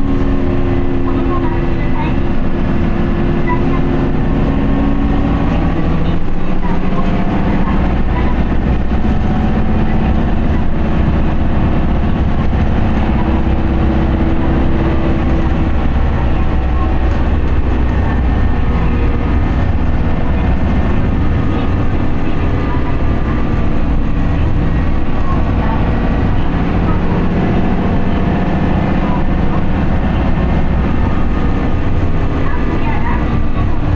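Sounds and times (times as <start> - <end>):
bus diesel engine running: 0.0 - 33.9
road noise: 0.0 - 33.9.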